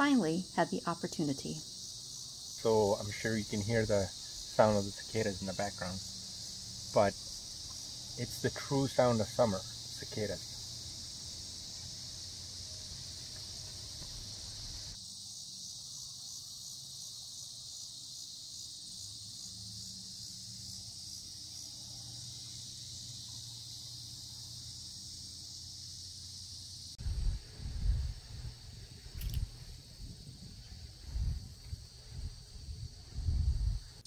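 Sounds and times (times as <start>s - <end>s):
cicadas buzzing: 0.0s - 34.0s.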